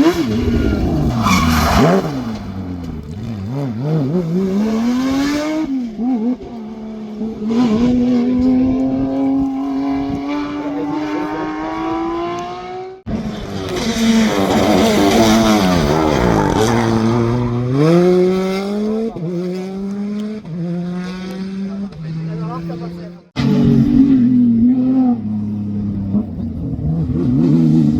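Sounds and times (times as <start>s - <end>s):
rally car engine accelerating: 0.0s - 27.9s
rally car engine slowing and accelerating: 0.0s - 27.9s.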